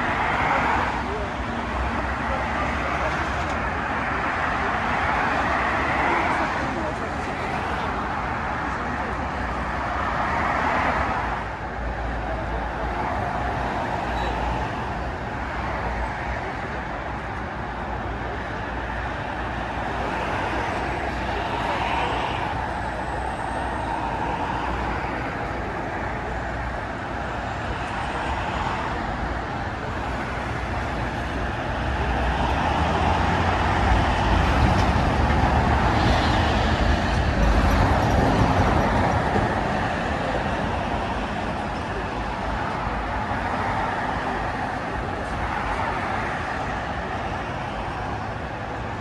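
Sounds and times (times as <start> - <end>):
car road and tyre noise: 0.0 - 49.0.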